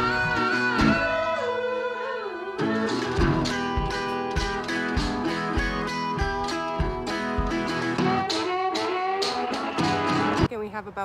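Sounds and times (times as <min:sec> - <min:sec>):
country guitar music: 0:00.0 - 0:10.7.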